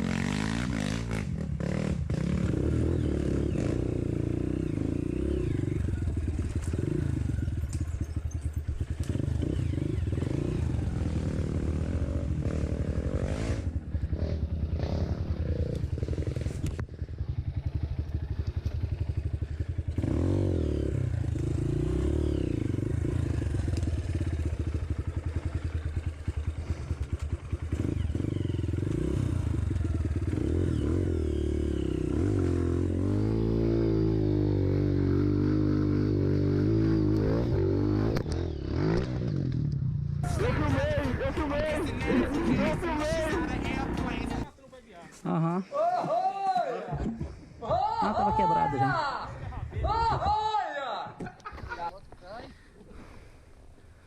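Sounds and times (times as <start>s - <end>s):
dirt bike engine revving: 0.0s - 44.5s.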